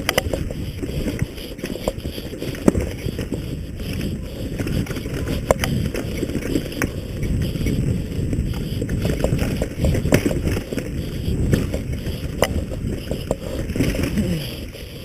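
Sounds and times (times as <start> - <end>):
bike clacks: 0.0 - 15.0
mountain bike rattling: 0.0 - 15.0
wind buffeting microphone: 0.0 - 15.0.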